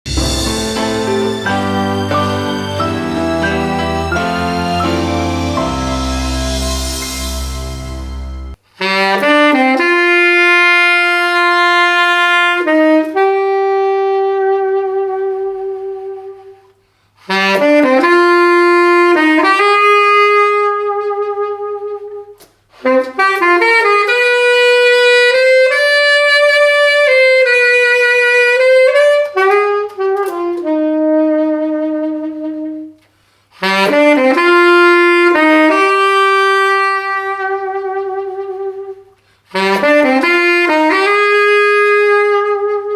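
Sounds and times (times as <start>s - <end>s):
solo saxophone melody: 0.1s - 42.9s.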